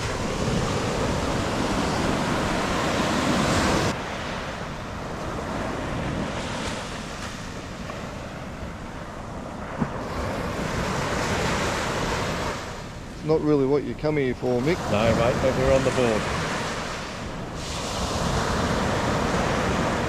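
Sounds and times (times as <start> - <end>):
surf washing on beach: 0.0 - 20.0
wind buffeting microphone: 0.0 - 20.0.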